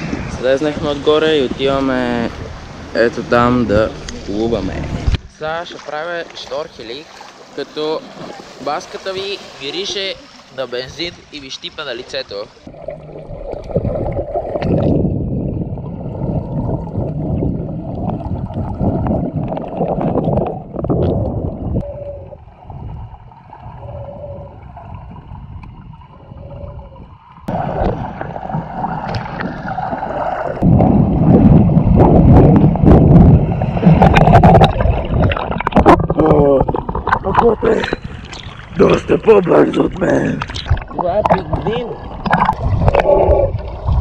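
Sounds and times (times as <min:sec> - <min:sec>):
muffled underwater sloshing: 0:01.0 - 0:11.3, 0:12.5 - 0:44.0.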